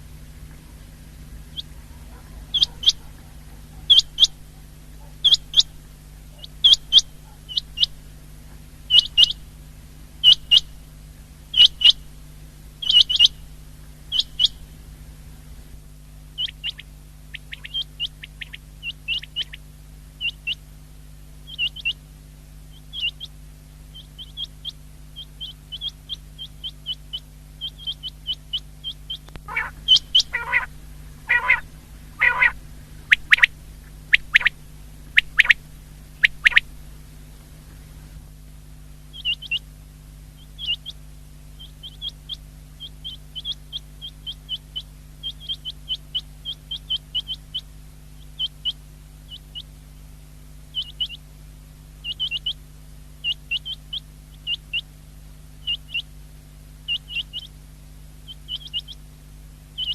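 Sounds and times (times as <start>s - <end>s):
quail song: 0.0s - 38.3s, 39.0s - 59.9s
low hum: 0.0s - 59.9s.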